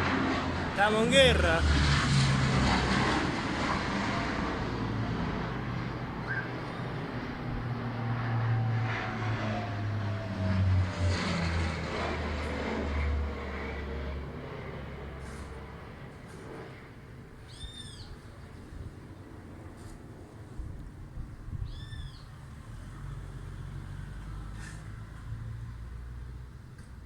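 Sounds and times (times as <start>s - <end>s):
aircraft engine drone: 0.0s - 25.3s.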